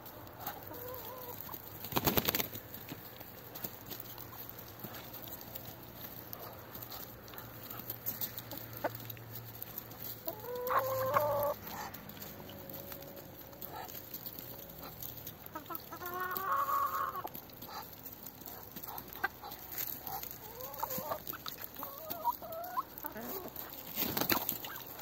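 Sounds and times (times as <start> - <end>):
drawn-out hen call: 0.0 - 25.0
hens clucking: 0.0 - 25.0.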